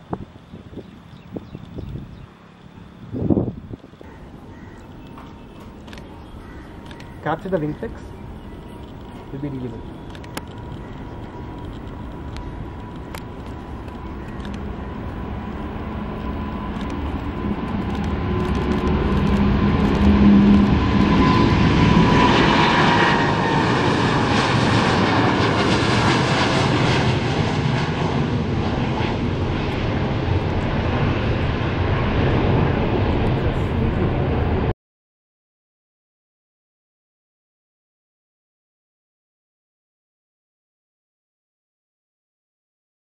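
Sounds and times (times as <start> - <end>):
high fan whine: 0.0 - 34.7
jet engine roar at takeoff: 0.0 - 34.7.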